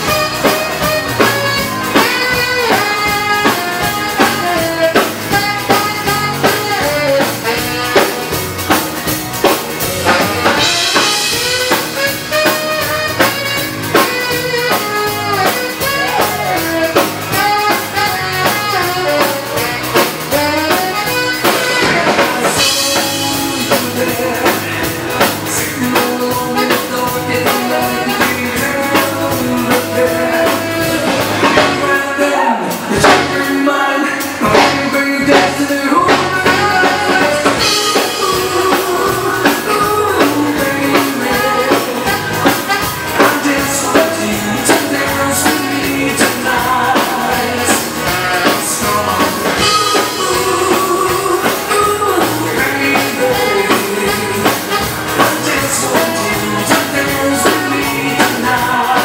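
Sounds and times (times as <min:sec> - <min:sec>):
drum kit beat: 0:00.0 - 0:59.0
live dance band instrumental: 0:00.0 - 0:59.0.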